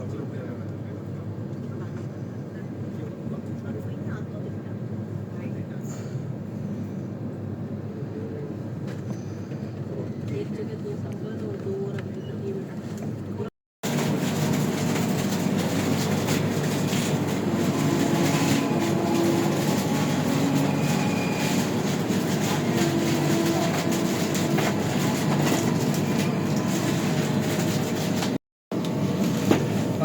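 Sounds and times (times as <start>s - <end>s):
train rumbling on rails: 0.1s - 30.0s.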